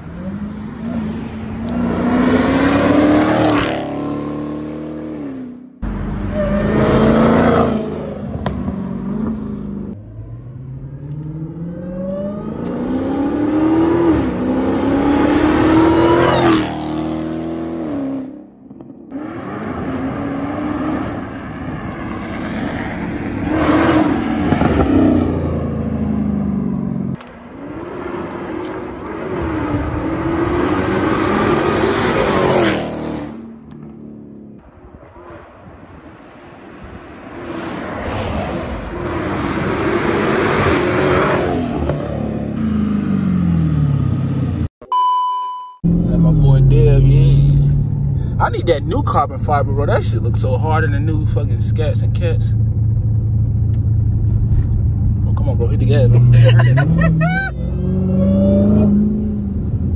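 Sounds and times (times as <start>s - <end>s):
car engine accelerating hard: 0.0s - 34.6s, 45.8s - 59.9s.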